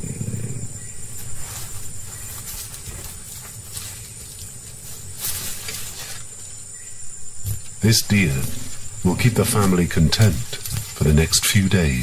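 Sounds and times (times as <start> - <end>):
rustles in dry grass: 0.3 - 12.0.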